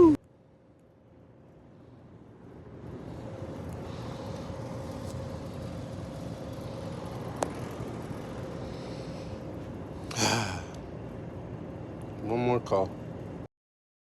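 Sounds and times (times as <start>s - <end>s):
faint constant hum: 0.0s - 13.5s
low mechanical rumble: 0.0s - 13.5s.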